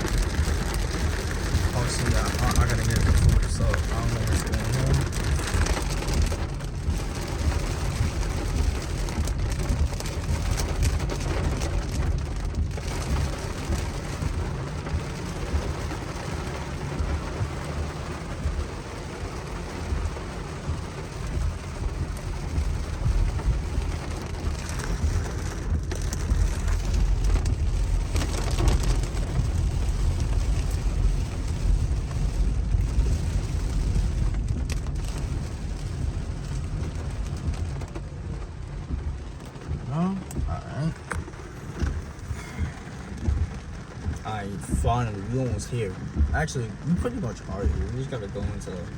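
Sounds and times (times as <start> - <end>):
car road rumble: 0.0 - 48.9.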